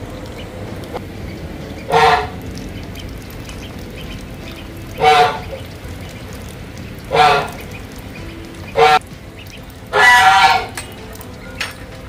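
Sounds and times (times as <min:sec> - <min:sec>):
duckling calls: 0:00.0 - 0:11.4.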